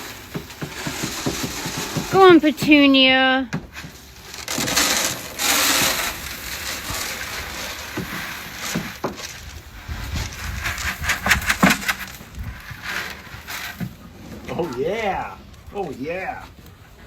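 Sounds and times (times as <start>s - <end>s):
animals eating feed rustling: 0.0s - 17.0s.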